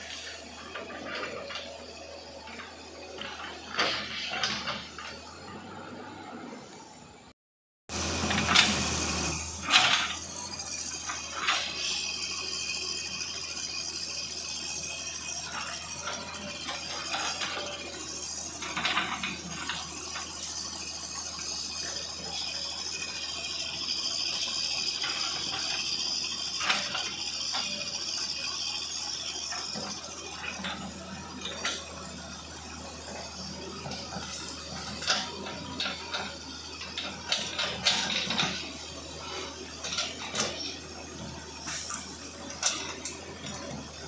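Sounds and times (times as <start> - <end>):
excavator engine drone: 0.0 - 7.3, 7.9 - 44.0.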